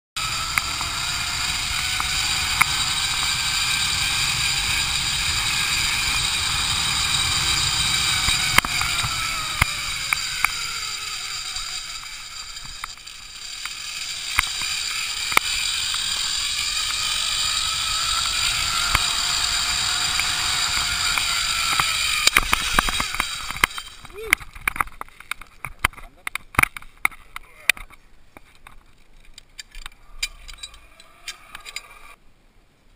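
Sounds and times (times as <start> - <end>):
zip-line pulleys whining on cable: 0.2 - 24.8, 30.0 - 32.2.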